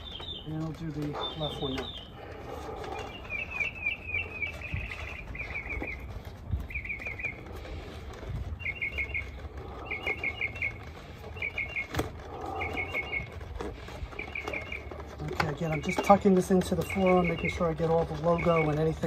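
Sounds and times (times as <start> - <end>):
songbird chirping: 0.0 - 7.8, 8.6 - 13.4, 14.1 - 19.0.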